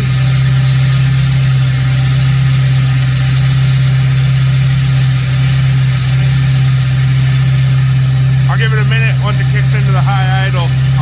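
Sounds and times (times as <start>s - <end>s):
diesel engine idling loudly: 0.0s - 11.0s.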